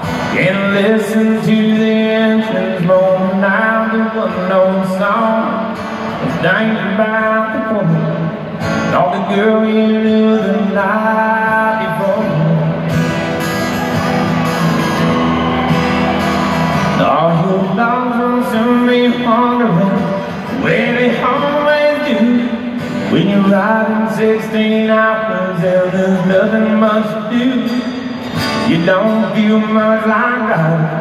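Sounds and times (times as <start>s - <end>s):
man singing: 0.0s - 12.8s, 16.9s - 31.0s
acoustic guitar: 0.0s - 31.0s.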